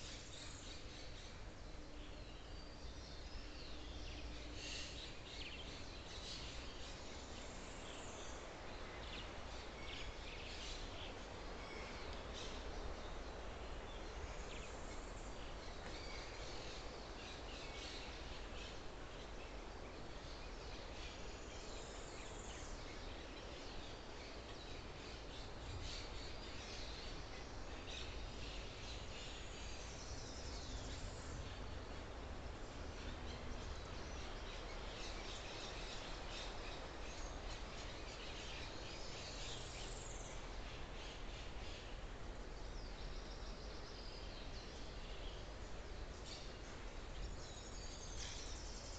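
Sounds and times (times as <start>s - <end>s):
background hiss and rumble: 0.0s - 48.9s.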